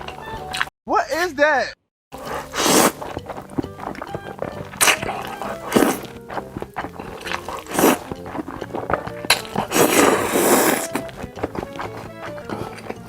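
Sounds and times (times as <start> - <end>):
person chewing: 2.2 - 13.0
soft background music: 2.2 - 13.0.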